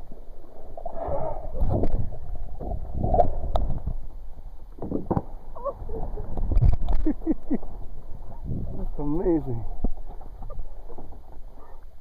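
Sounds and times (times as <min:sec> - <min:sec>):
water splashing around kayak: 0:00.0 - 0:12.0.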